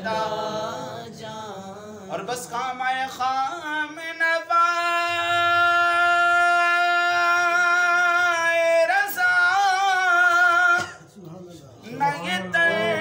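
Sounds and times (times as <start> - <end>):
man singing unaccompanied: 0.0 - 11.0, 11.8 - 13.0.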